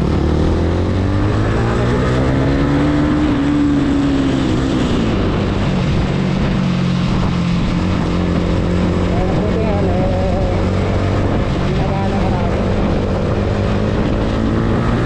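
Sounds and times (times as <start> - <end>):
motorcycle engine running: 0.0 - 15.0
wind on microphone: 0.0 - 15.0.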